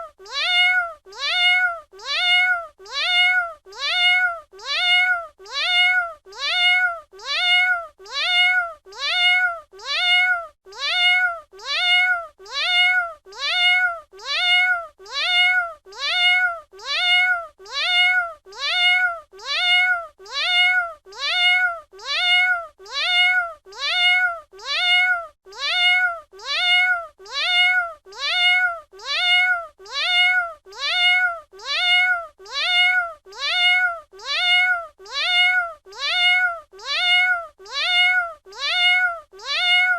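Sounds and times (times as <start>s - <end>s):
cat meowing: 0.0s - 39.9s.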